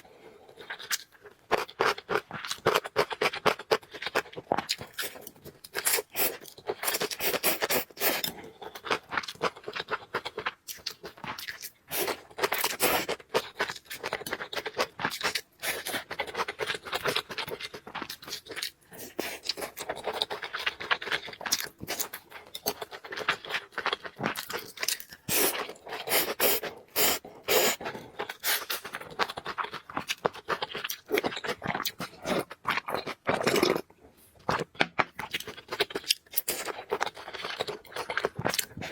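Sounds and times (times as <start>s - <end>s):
chewing and mouth noises: 0.4s - 38.9s.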